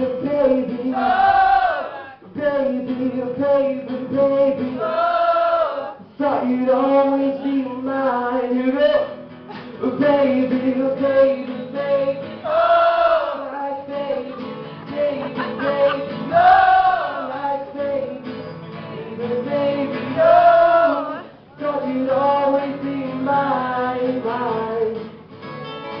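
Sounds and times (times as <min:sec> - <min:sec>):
men singing: 0:00.0 - 0:08.9, 0:09.8 - 0:25.1
strummed acoustic guitars: 0:00.0 - 0:26.0.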